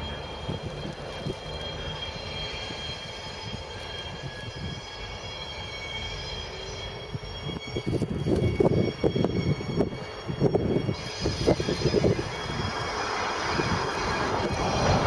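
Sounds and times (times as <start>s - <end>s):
diesel locomotive engine running: 0.0s - 15.0s
high-pitched wheel squeal: 0.0s - 15.0s.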